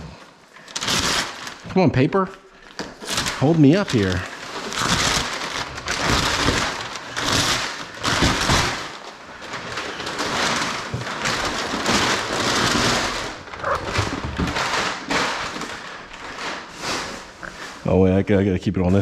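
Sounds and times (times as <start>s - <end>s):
packing paper rustling: 0.0s - 17.9s.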